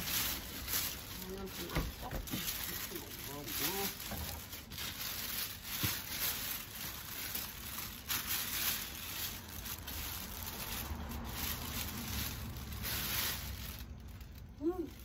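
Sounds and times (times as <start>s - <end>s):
soft irregular rustling: 0.0s - 15.0s.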